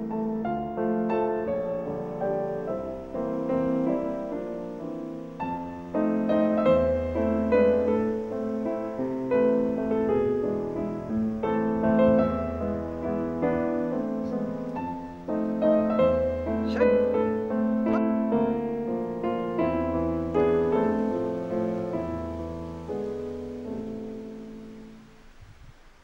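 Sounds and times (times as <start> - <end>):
piano music: 0.0 - 25.4.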